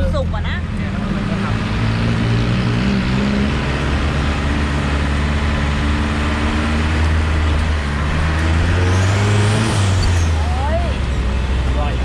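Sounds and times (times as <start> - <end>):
road and tyre noise: 0.0 - 12.0
vehicle engine running: 0.0 - 12.0.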